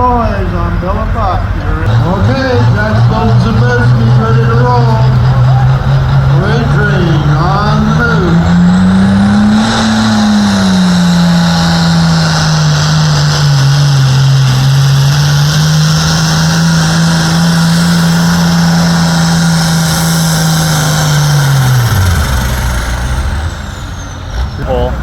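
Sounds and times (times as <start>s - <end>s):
engine running under heavy load: 0.0s - 25.0s.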